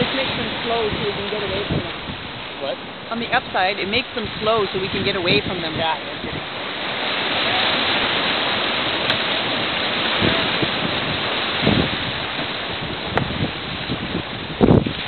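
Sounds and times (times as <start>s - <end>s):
water streaming past boat: 0.0s - 15.0s
wind over microphone: 0.0s - 15.0s.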